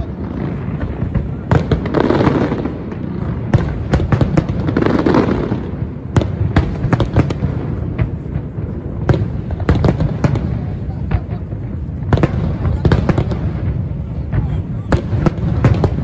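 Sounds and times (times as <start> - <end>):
firework crackle and rumble: 0.0 - 16.0.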